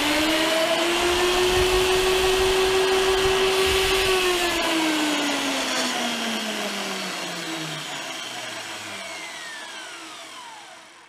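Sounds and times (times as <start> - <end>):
drill motor whine falling in pitch: 0.0 - 11.0.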